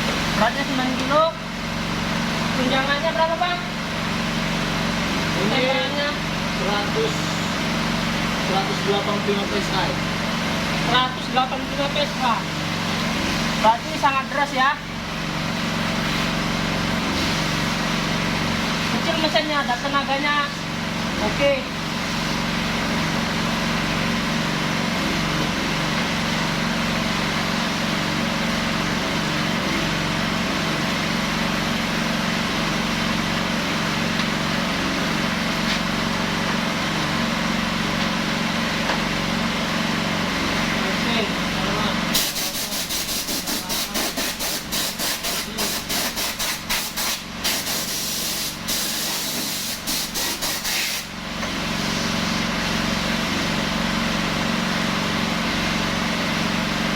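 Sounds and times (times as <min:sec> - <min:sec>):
small engine running steadily: 0:00.0 - 0:56.9.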